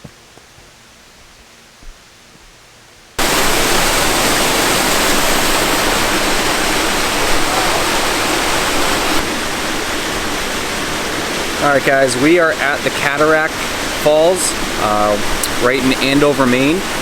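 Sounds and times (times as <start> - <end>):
waterfall rushing: 3.2 - 17.0.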